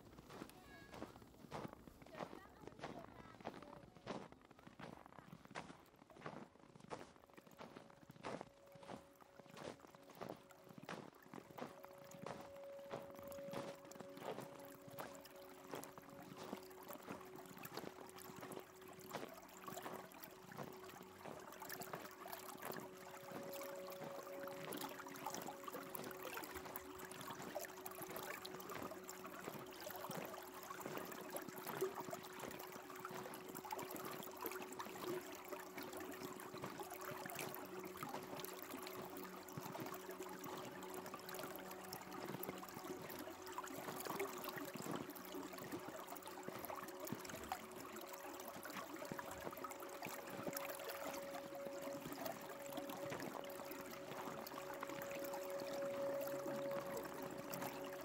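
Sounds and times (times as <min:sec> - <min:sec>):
trickling running water: 0:07.2 - 0:58.0.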